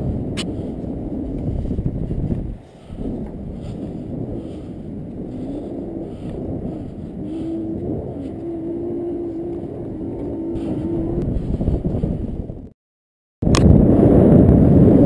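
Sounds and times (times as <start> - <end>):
faint steady hum: 0.0 - 12.7
low rumbling wind on microphone: 0.0 - 12.8, 13.4 - 15.0.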